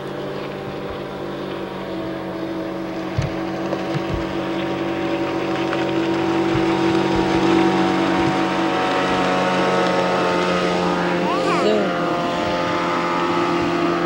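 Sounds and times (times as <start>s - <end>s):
motorboat engine drone: 0.0s - 14.0s.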